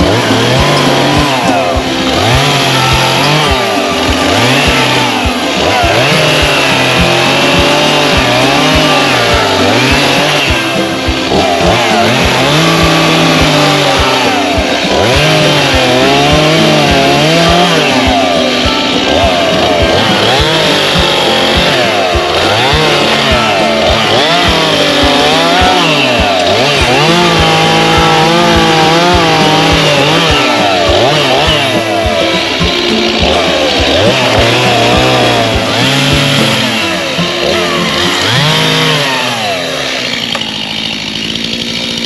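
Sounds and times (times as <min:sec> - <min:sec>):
chainsaw engine revving: 0:00.0 - 0:42.0.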